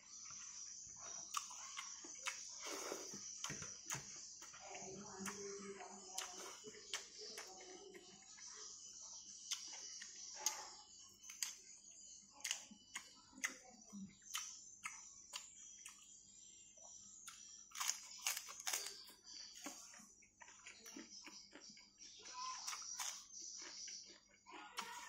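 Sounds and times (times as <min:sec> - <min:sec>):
chewing crisp cabbage: 0:00.1 - 0:16.3, 0:16.9 - 0:25.0.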